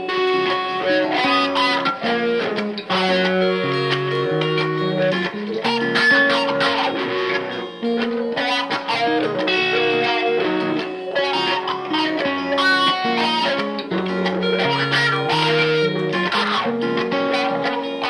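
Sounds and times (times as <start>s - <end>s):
electric guitar picked notes: 0.0s - 18.0s.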